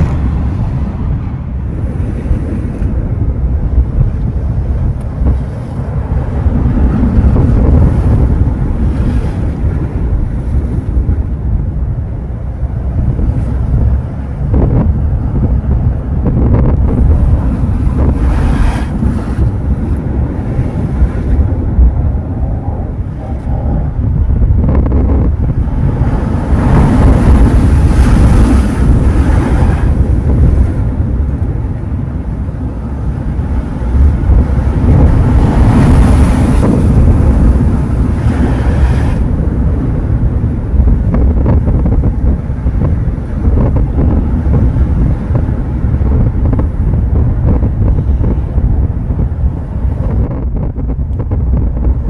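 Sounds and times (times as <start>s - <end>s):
ocean waves breaking: 0.0s - 52.0s
wind buffeting microphone: 0.0s - 52.0s.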